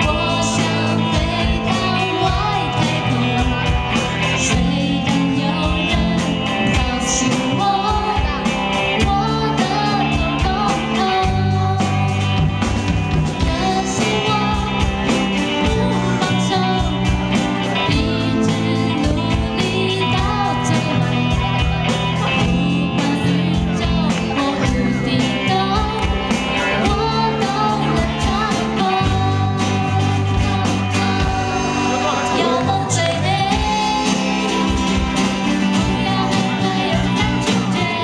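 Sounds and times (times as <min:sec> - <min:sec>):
live rock band playing: 0:00.0 - 0:38.0
woman singing lead: 0:00.0 - 0:38.0.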